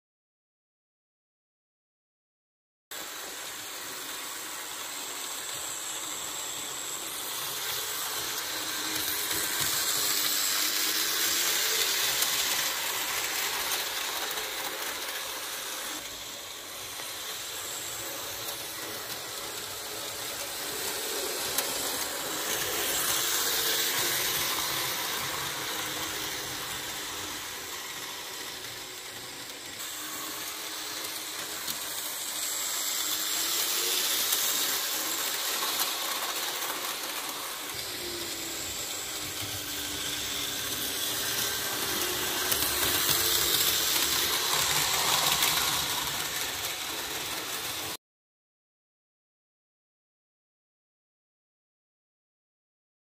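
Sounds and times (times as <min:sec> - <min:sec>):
model train whirring on track: 0:03.0 - 0:48.0.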